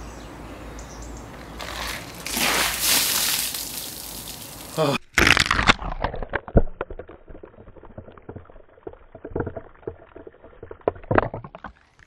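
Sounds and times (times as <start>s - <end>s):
ice and water patters: 1.6s - 12.0s
ice water splashing and dripping: 1.6s - 12.0s.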